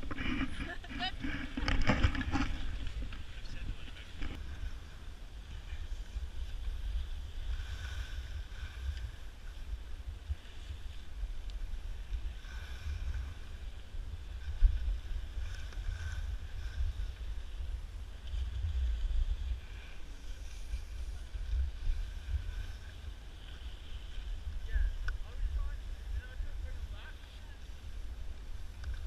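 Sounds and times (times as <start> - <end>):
skis carving over packed snow: 0.0 - 29.0
wind buffeting microphone: 0.0 - 29.0.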